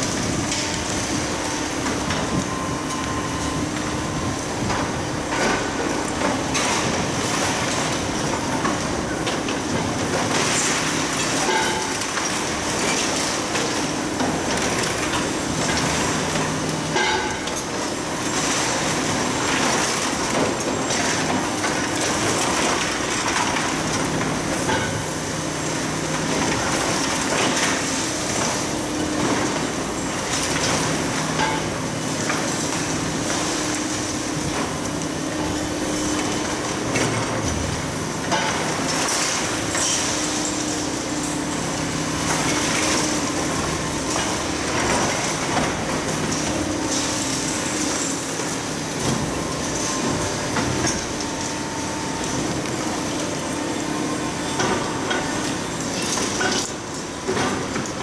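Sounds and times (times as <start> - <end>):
diesel excavator engines: 0.0 - 58.0.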